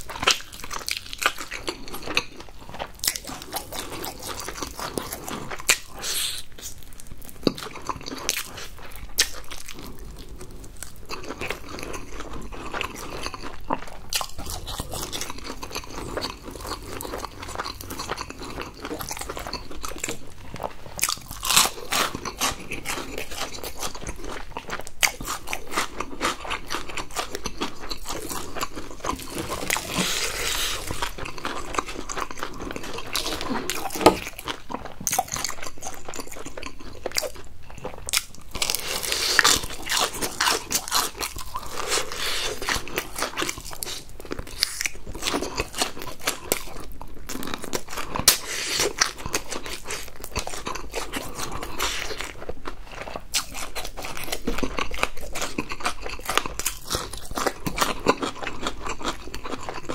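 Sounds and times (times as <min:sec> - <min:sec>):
crunching and chewing fried chicken: 0:00.0 - 0:59.9.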